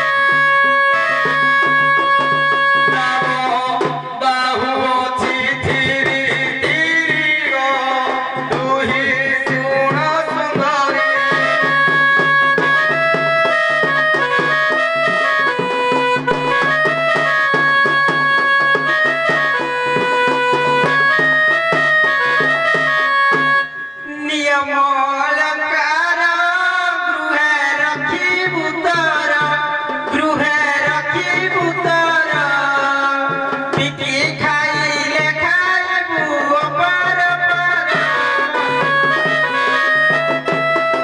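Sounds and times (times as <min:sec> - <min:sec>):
fast tabla drumming: 0:00.0 - 0:41.0.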